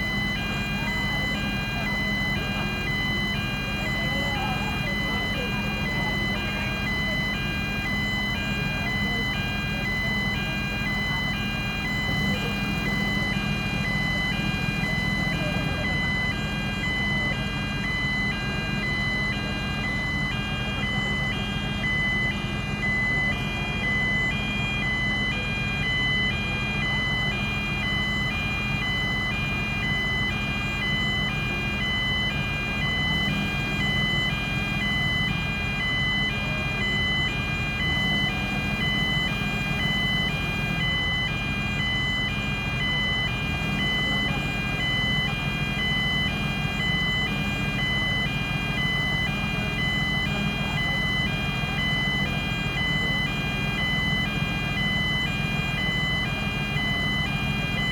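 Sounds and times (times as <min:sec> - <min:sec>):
diesel engine running: 0:00.0 - 0:57.9
two-tone warning alarm beeping: 0:00.0 - 0:57.9.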